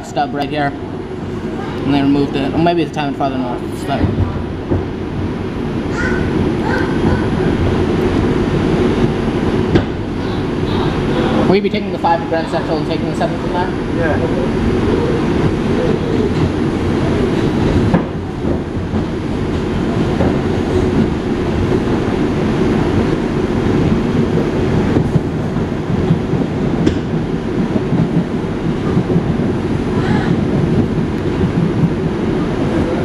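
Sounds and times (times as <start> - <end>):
subway wheels rumbling on rail: 0.0 - 33.0.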